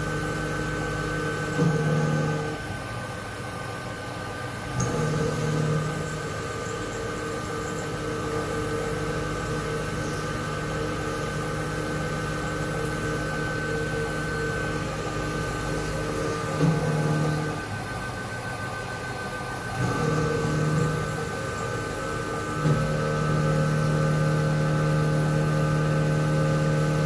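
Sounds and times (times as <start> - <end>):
milling machine spindle whine: 0.0 - 27.0.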